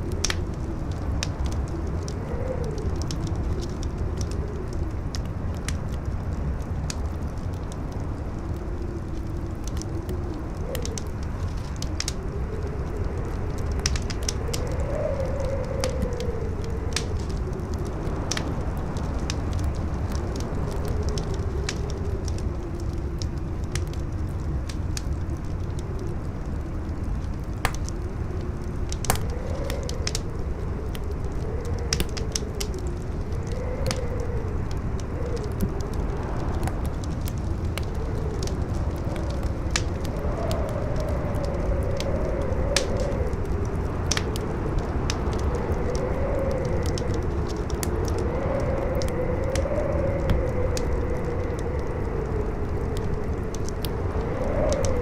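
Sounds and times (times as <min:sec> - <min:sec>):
howling wind: 0:00.0 - 0:55.0
wood fire crackling and popping: 0:00.0 - 0:55.0.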